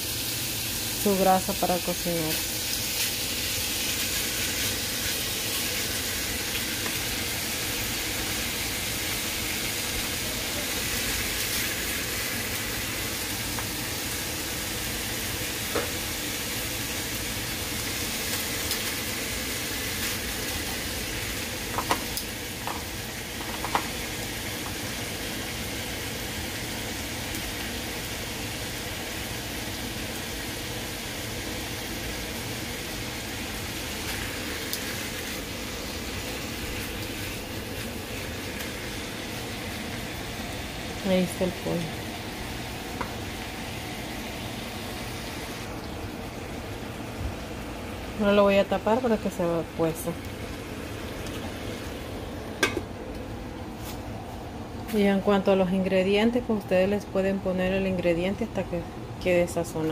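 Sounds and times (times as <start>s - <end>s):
chicken sizzling in a frying pan: 0.0s - 55.2s.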